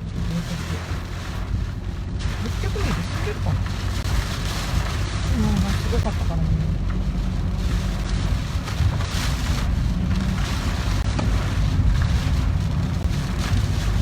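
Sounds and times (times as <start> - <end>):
car and road rumble: 0.0 - 14.0
rain and spray hissing: 0.0 - 14.0.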